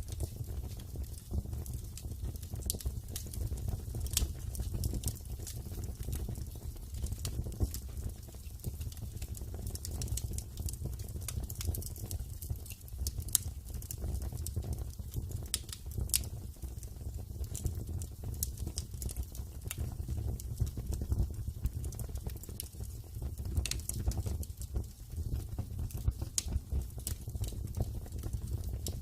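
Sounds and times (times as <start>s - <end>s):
flames rumbling: 0.0s - 29.0s
wood fire crackling: 0.0s - 29.0s.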